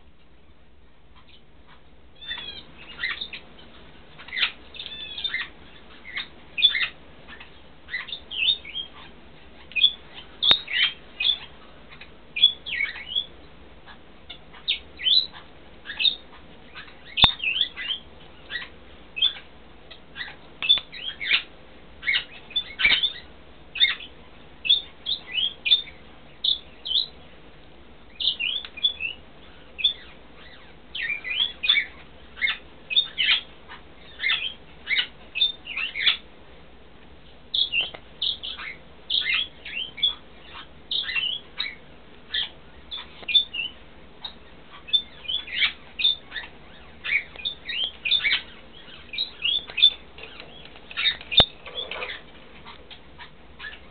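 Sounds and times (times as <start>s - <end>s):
parrots chirping: 1.2s - 27.3s, 28.1s - 36.3s, 37.5s - 53.9s.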